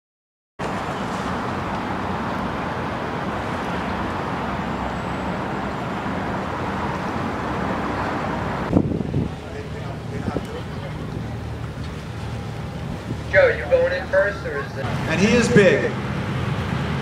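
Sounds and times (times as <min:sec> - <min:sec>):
broad wash of noise: 0:00.6 - 0:17.0
tugboat engine running: 0:00.8 - 0:17.0.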